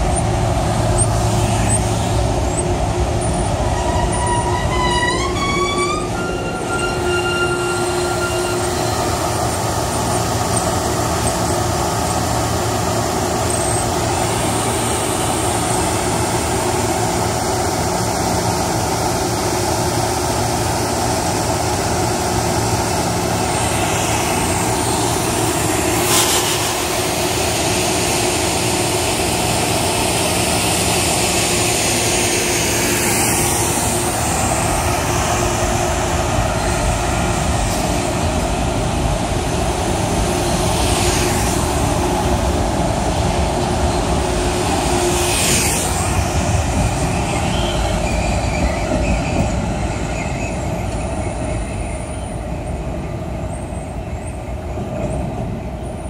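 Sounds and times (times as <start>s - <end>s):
train equipment humming: 0.0s - 56.0s.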